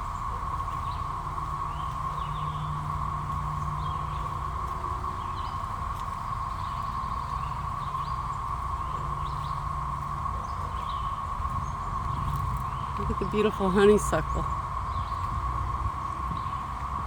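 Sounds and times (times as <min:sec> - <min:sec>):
bird chirps: 0:00.0 - 0:15.4
cicadas droning: 0:00.0 - 0:17.0.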